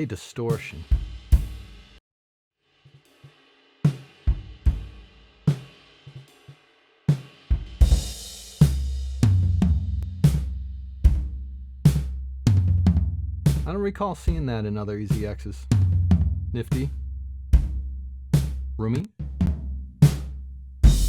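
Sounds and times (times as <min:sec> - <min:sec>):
drum kit groove with distortion: 0:00.0 - 0:02.0, 0:02.9 - 0:17.0, 0:17.6 - 0:21.0.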